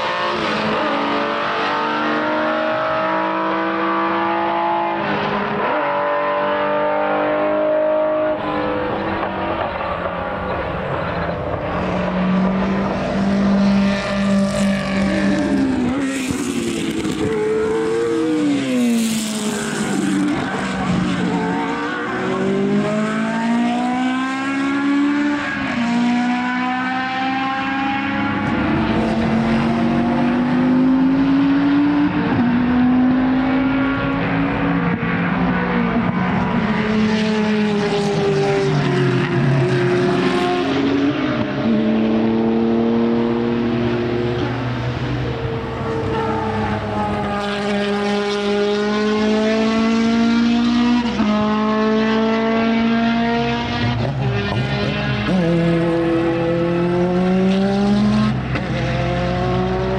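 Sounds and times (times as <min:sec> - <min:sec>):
engine revving through upshifts: 0:00.0 - 0:09.3, 0:12.0 - 0:59.9
racing car engines: 0:00.0 - 0:59.9.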